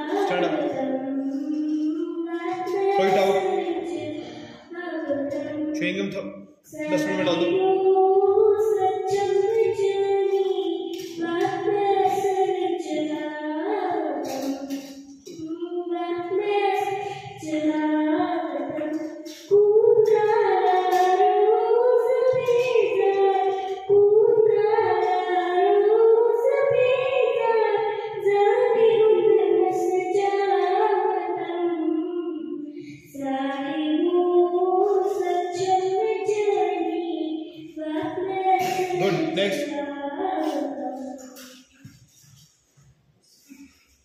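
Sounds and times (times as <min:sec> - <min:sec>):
girl singing into a microphone: 0:00.0 - 0:05.9, 0:06.6 - 0:42.4.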